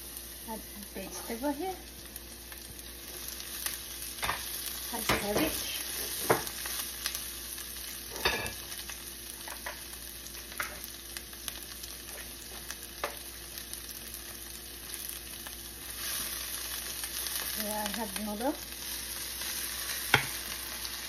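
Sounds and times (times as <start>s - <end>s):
cabbage sizzling in oil: 0.0s - 21.0s.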